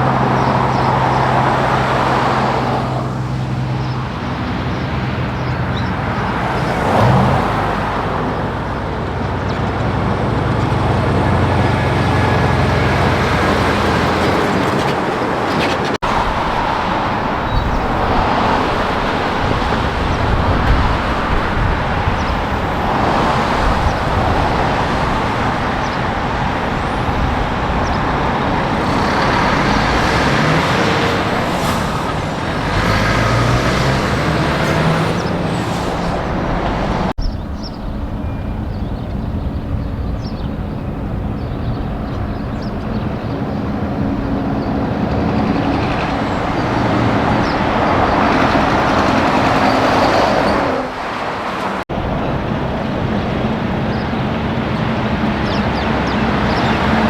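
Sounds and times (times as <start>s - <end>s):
truck engine accelerating: 0.0s - 57.0s
truck passing by: 0.0s - 57.0s
tyre and road noise: 0.0s - 57.0s.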